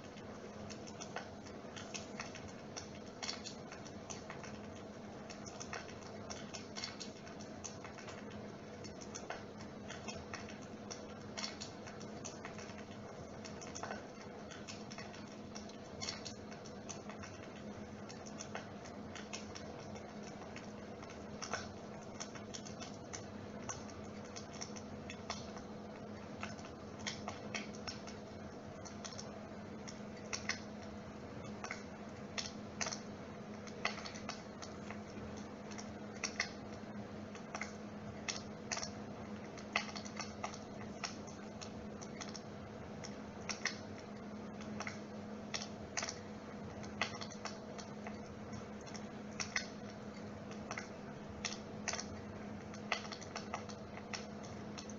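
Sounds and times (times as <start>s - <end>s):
crackling clicks: 0.0s - 54.9s
electric fire humming: 0.0s - 54.9s.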